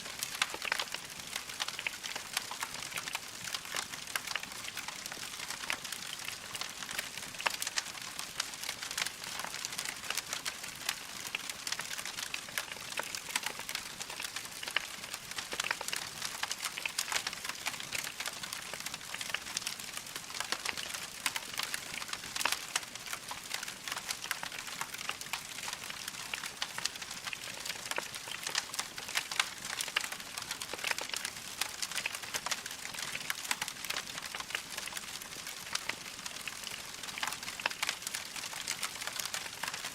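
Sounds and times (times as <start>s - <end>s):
wood fire crackling: 0.0s - 39.9s
sharp crack from fire: 0.1s - 39.9s.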